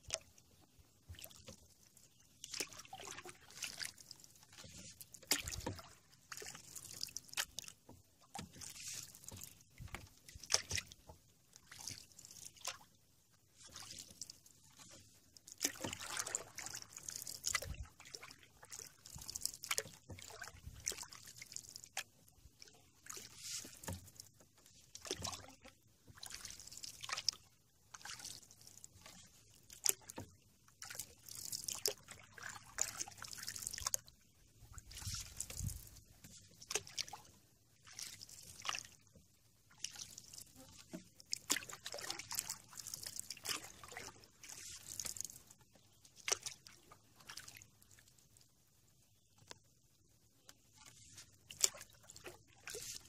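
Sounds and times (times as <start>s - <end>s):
paddle splashing water: 0.0s - 13.0s, 13.6s - 48.0s, 50.5s - 53.0s.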